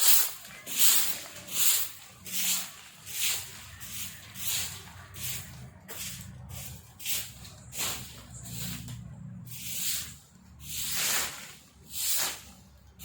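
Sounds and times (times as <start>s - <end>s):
broom sweeping leaves: 0.0s - 13.0s.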